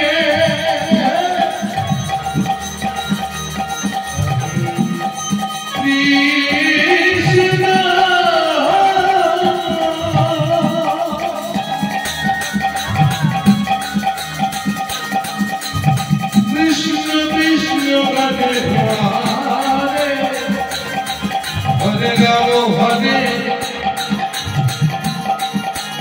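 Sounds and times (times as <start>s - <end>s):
hand cymbals: 0.0s - 26.0s
hand-drum strokes: 0.0s - 26.0s
held melodic drone: 0.0s - 26.0s.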